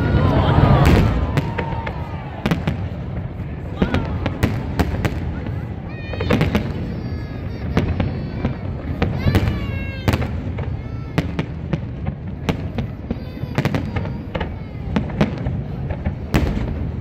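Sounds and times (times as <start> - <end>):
fireworks bangs and crackles: 0.0 - 17.0
wavering whistling fireworks: 0.0 - 17.0.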